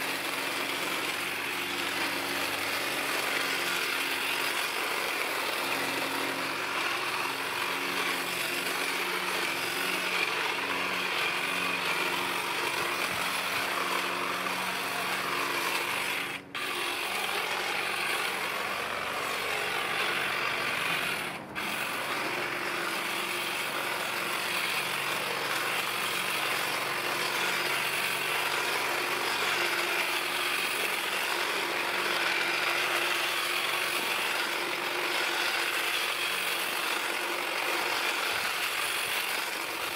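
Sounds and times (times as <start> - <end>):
hedge trimmer running: 0.0 - 39.9.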